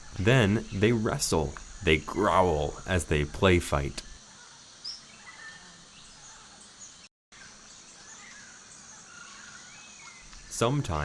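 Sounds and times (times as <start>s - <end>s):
bird chirps: 0.0s - 11.0s
steady hiss: 0.0s - 11.0s.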